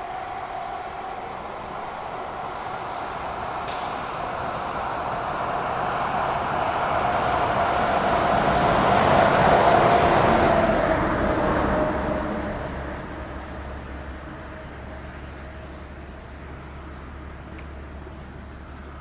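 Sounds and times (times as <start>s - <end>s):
truck passing on road: 0.0s - 19.0s.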